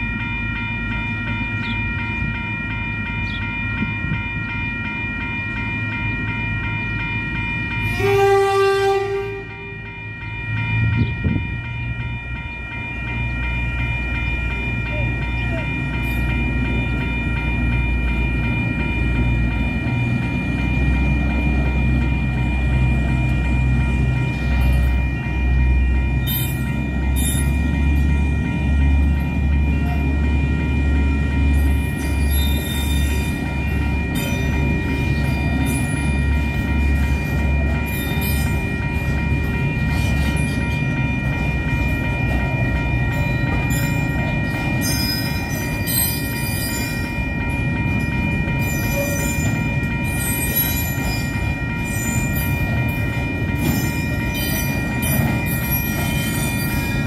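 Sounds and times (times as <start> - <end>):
freight train rumbling: 0.0 - 57.0
level crossing warning bell: 0.0 - 57.0.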